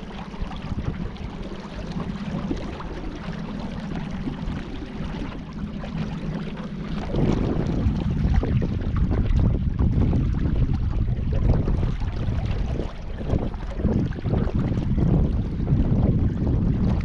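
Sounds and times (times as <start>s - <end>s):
small water splashes: 0.0s - 17.0s.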